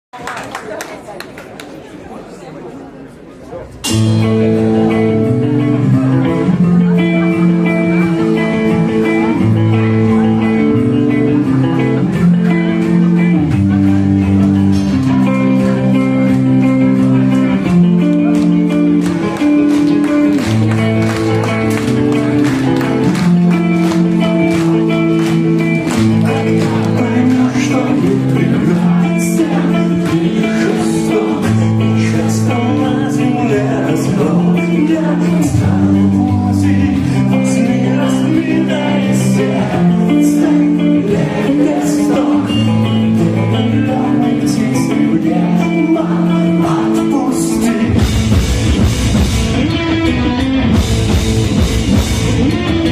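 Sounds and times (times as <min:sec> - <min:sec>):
held guitar chords: 0:03.6 - 0:52.9
bass line: 0:03.8 - 0:52.9
rock band playing: 0:03.8 - 0:52.9.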